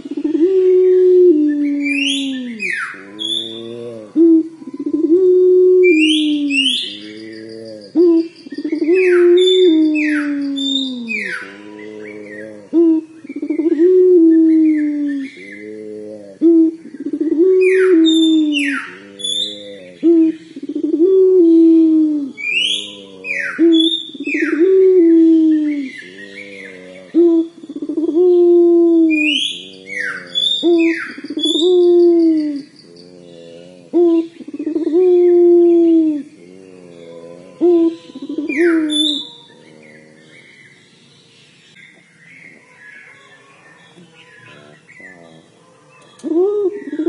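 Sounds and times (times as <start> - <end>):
dove cooing: 0.0 - 40.6, 44.4 - 47.0.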